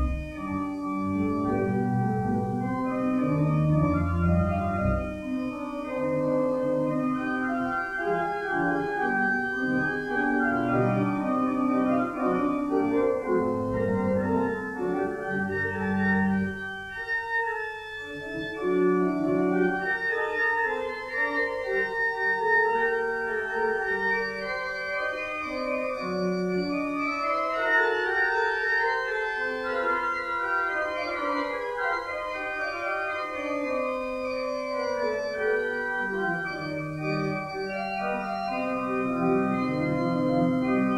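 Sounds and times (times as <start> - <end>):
organ playing hymn chords: 0.0 - 40.9.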